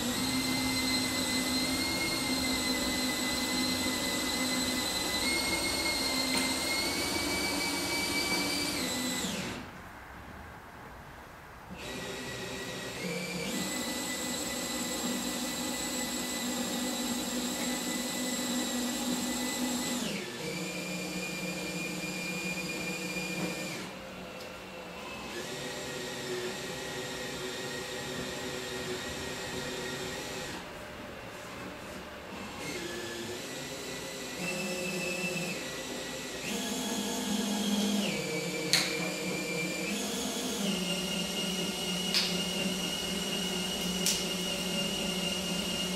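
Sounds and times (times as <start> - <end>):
cordless drill whining: 0.0 - 9.7, 11.7 - 30.7, 32.4 - 45.9.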